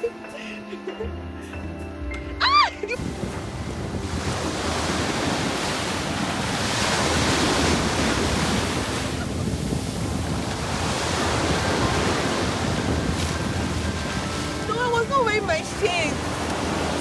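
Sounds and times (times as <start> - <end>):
sea waves washing onto beach: 3.0 - 17.0
wind buffeting microphone: 3.0 - 17.0.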